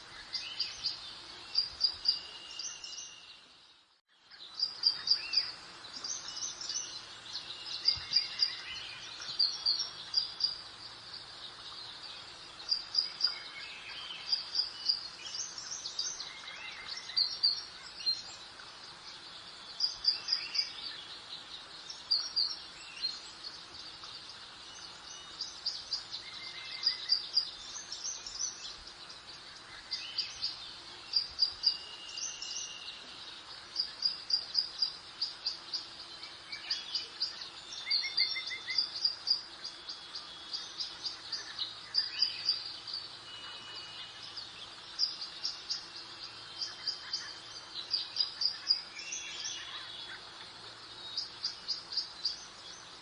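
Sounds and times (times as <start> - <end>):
songbirds chirping: 0.0 - 53.0
breeze hiss: 4.4 - 53.0.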